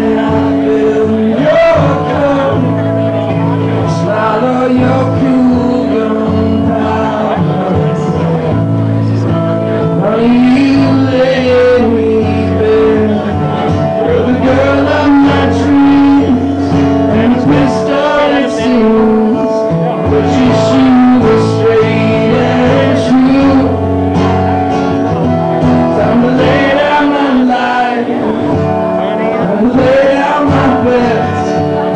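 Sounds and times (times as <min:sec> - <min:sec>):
acoustic guitar strumming: 0:00.0 - 0:31.9
man singing: 0:00.0 - 0:31.9.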